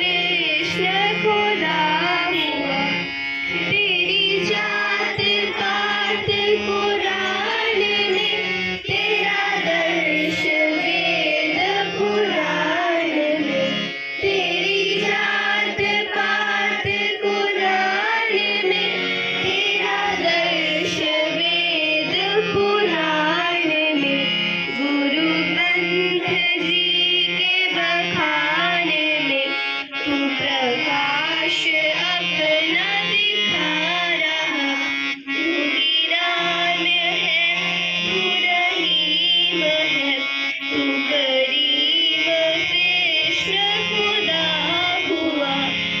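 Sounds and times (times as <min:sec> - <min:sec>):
harmonium drone and chords: 0:00.0 - 0:46.0
voices singing devotional song: 0:00.0 - 0:46.0.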